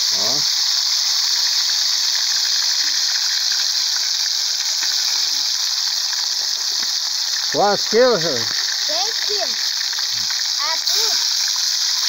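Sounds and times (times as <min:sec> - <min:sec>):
fish deep-frying sizzle: 0:00.0 - 0:12.0.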